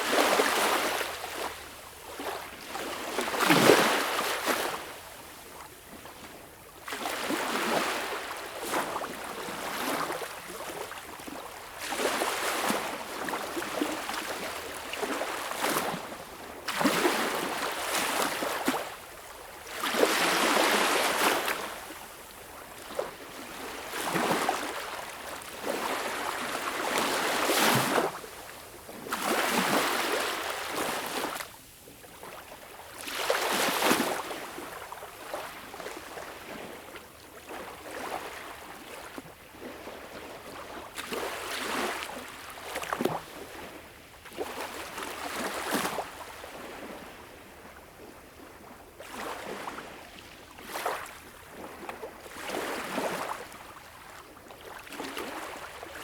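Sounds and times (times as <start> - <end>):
gentle waves lapping on beach: 0.0 - 56.0.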